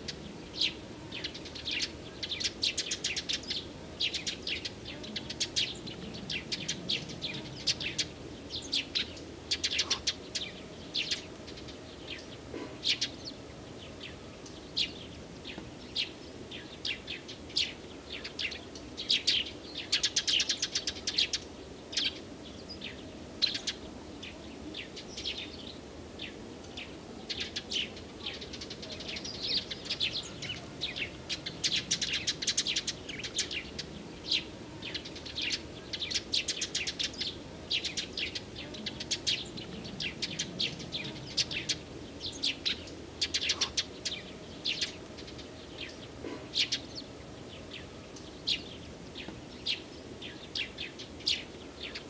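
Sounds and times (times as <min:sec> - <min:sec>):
small songbirds chirping: 0:00.0 - 0:52.0.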